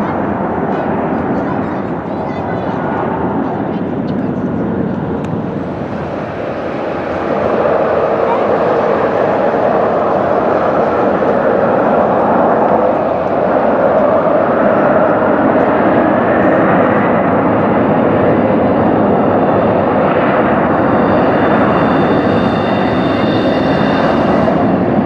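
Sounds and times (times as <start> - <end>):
jet engines roaring at takeoff: 0.0 - 25.0
faint rising whine: 3.9 - 25.0.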